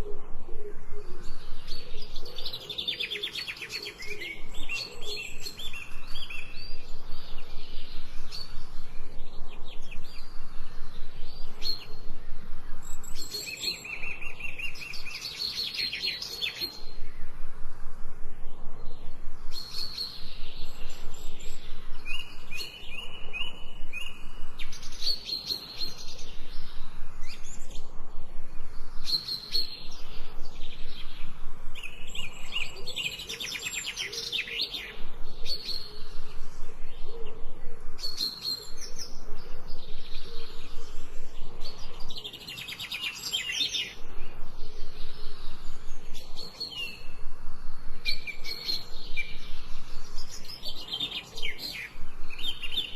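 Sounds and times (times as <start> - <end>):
birds chirping and singing: 0.0 - 17.4, 18.7 - 52.9.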